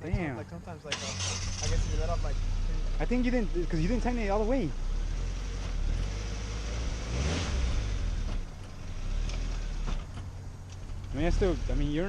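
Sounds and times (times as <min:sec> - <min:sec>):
car engine running: 0:00.1 - 0:12.0.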